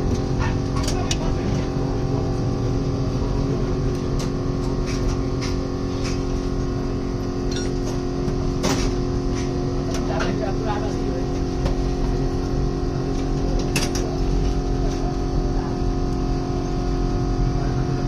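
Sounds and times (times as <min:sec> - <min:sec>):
mechanical hum with low rumble: 0:00.0 - 0:18.0.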